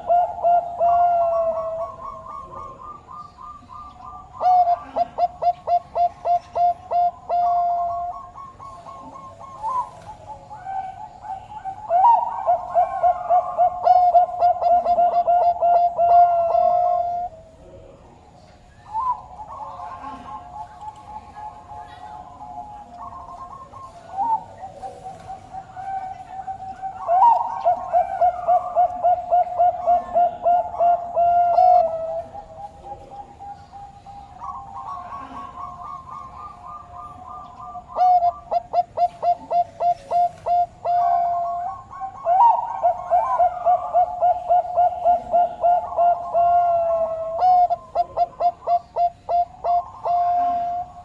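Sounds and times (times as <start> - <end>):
dove cooing: 0.0 - 51.0.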